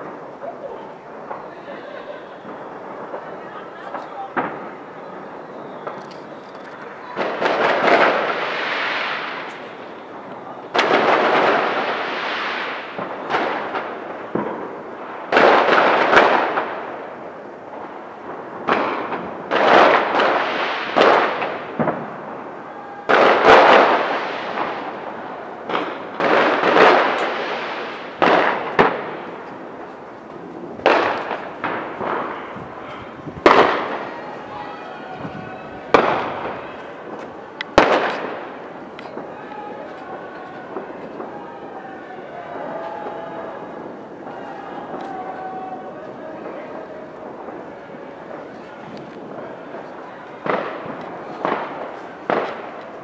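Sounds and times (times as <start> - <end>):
fireworks bangs: 0.0 - 53.0.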